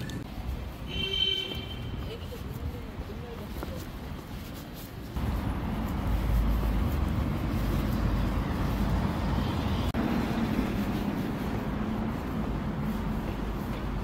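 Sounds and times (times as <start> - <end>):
low rumble of city noise: 0.0 - 14.0.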